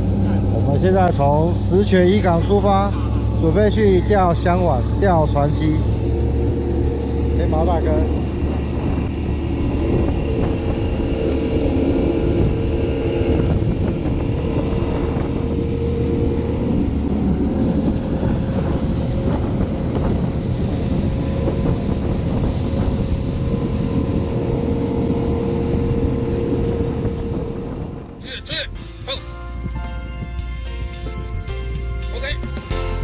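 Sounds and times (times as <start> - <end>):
boat engine rumble: 0.0 - 33.0.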